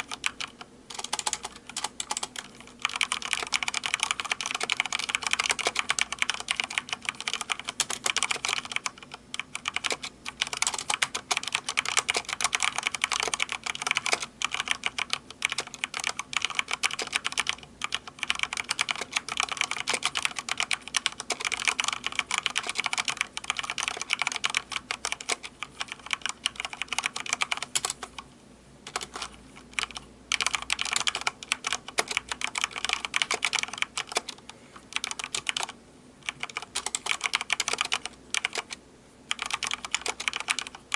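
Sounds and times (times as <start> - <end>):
mechanical keyboard typing: 0.0 - 28.3, 28.9 - 40.9.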